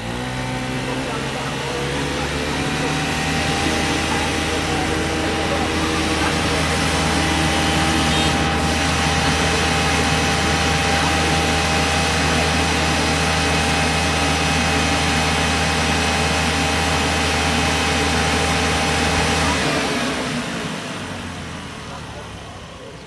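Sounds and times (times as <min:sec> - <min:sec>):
moped engine on roller bench: 0:00.0 - 0:23.0.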